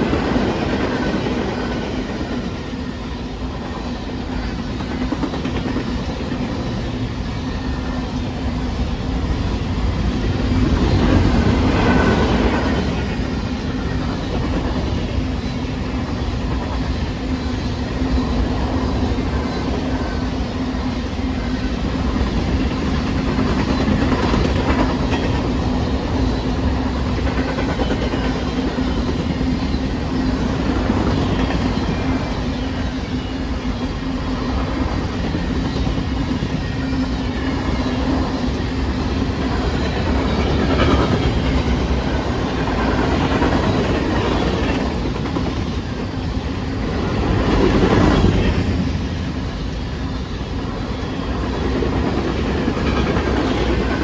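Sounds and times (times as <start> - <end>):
train rumble: 0.0 - 54.0
train wheels clickety-clack: 0.0 - 54.0.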